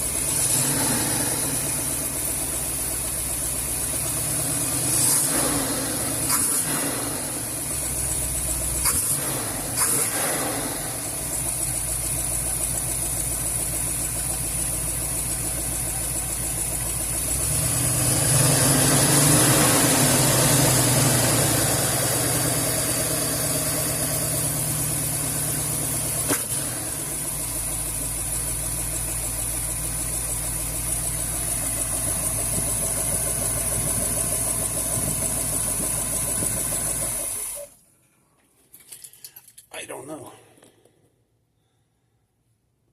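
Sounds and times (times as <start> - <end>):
engine idling with wup wup: 0.0 - 19.4, 21.7 - 37.8.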